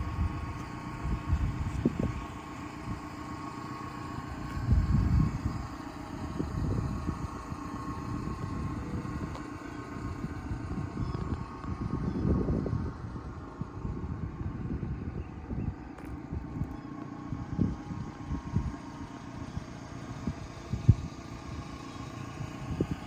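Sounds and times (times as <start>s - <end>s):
small truck engine idling: 0.0s - 23.0s.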